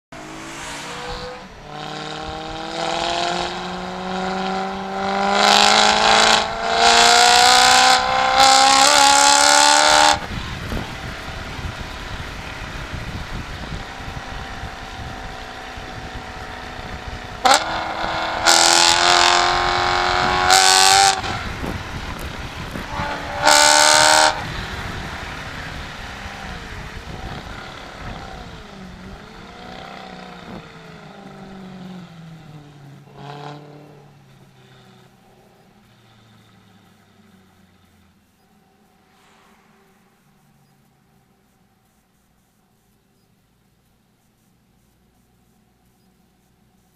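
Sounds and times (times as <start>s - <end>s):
car engine accelerating hard: 0.1s - 40.8s
exhaust crack: 0.1s - 42.6s.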